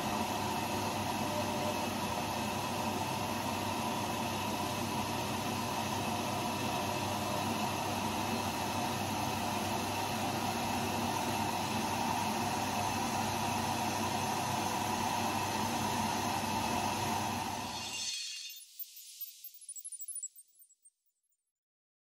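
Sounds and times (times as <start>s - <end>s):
washing machine hum: 0.0s - 17.8s.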